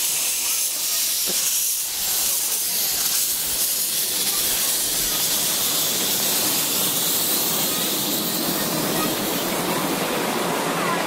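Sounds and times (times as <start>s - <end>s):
passenger cars rolling on track: 0.0s - 11.0s
steam locomotive hissing: 0.0s - 11.0s.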